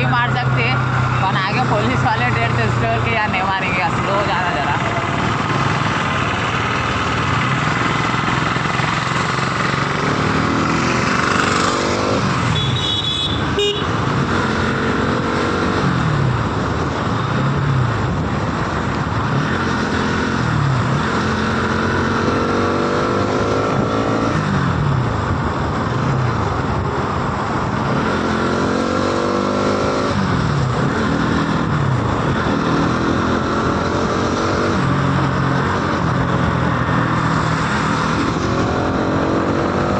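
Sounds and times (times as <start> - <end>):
wind and road noise: 0.0 - 39.9
motorcycle engine accelerating: 4.0 - 39.9.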